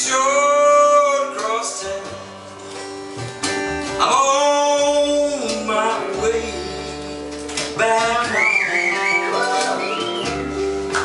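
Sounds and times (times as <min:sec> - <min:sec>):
country band guitar: 0:00.0 - 0:11.0.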